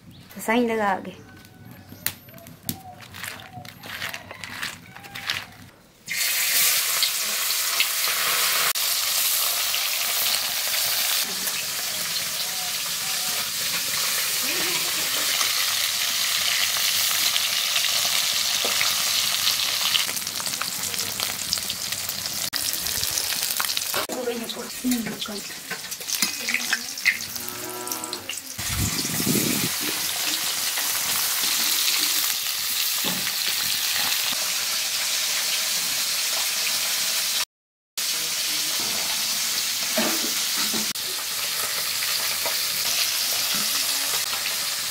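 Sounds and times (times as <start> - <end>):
fish sizzling in hot oil: 6.1 - 24.1, 24.8 - 27.4, 28.3 - 37.4, 38.0 - 44.9.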